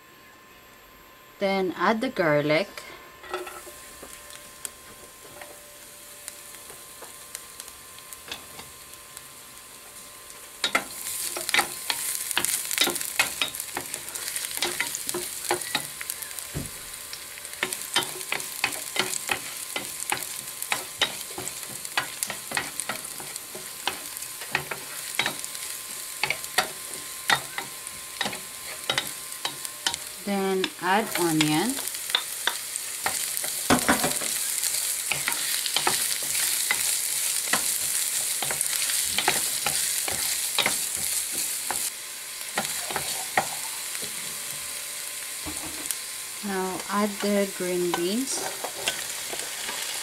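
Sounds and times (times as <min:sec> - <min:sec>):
garlic sizzling: 0:01.4 - 0:50.0
hot oil hissing in a pan: 0:03.2 - 0:50.0.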